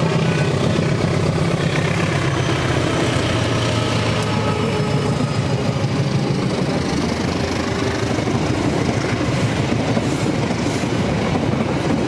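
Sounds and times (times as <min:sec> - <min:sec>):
diesel locomotive drone: 0:00.0 - 0:12.0.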